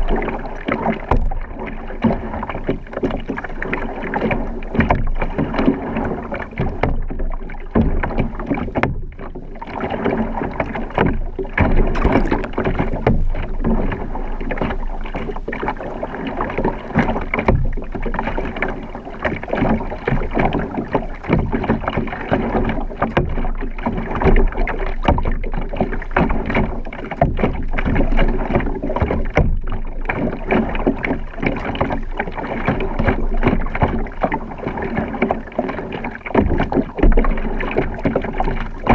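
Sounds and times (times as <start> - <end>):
water splashing and sloshing: 0.0 - 38.9.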